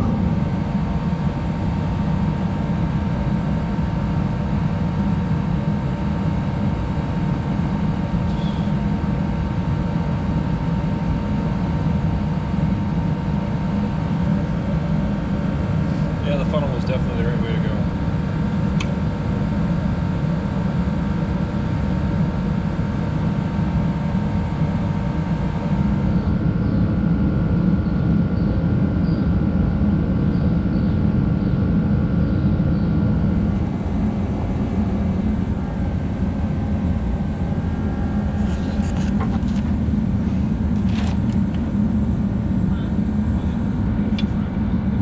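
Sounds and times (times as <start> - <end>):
faint steady hum: 0.0 - 45.0
low mechanical rumble: 0.0 - 45.0.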